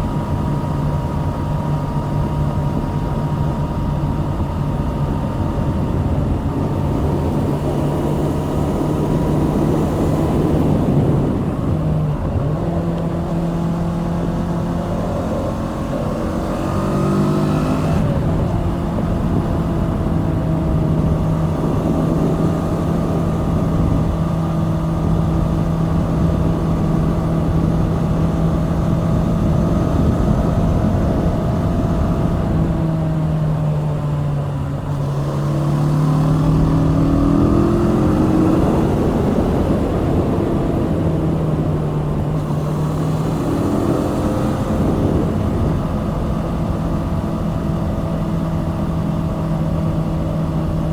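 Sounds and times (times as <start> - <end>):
motorcycle engine: 0.0 - 50.9
wind noise: 0.0 - 50.9.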